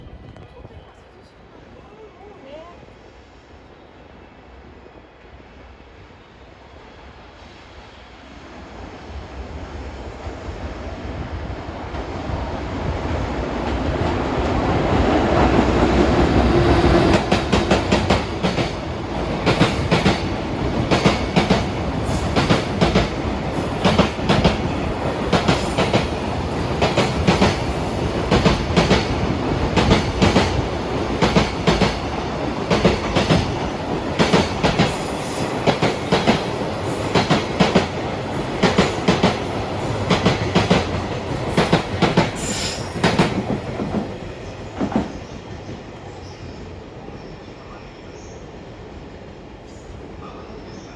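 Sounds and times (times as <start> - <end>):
freight train passing: 0.0 - 50.9.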